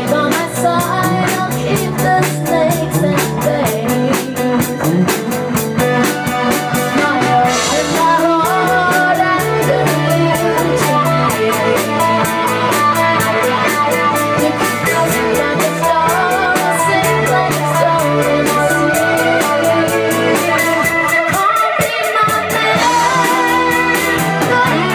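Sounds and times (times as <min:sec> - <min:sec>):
drum kit with cymbal beat: 0:00.0 - 0:24.9
electric and acoustic guitars: 0:00.0 - 0:24.9
woman singing: 0:00.0 - 0:24.9.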